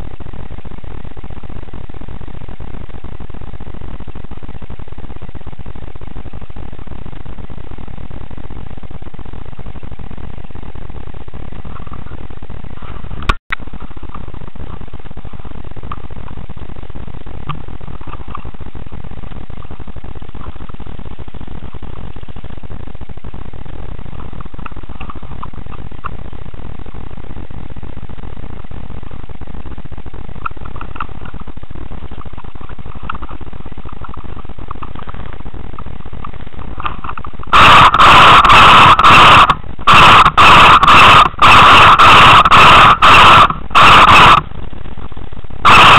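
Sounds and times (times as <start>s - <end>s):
faint crackles: 0.0s - 45.9s
low rumble and hiss: 0.0s - 45.9s.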